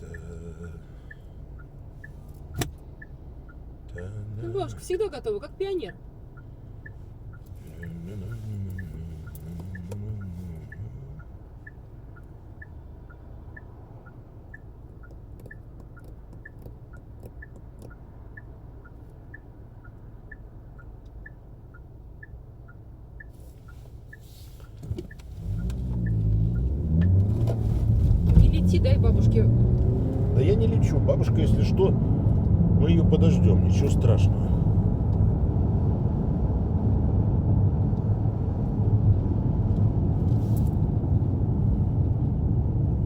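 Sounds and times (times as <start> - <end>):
car engine humming: 0.0 - 43.0
turn signal ticking: 0.0 - 43.0.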